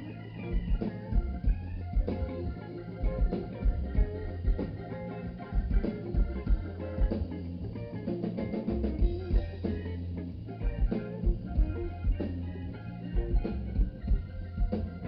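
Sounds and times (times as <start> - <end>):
bass line: 0.0 - 15.0
drum kit beat: 0.0 - 15.0
guitar: 0.0 - 15.0.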